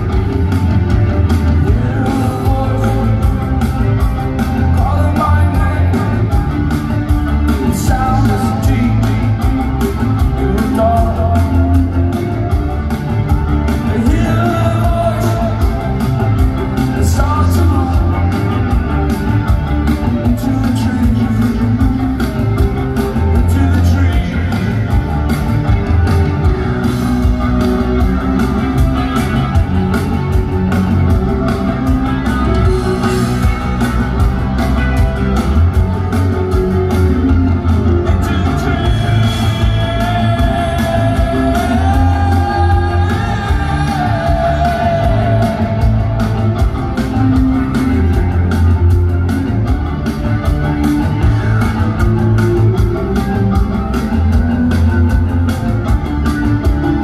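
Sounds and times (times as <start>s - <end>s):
rock band playing with singing: 0.0s - 57.0s.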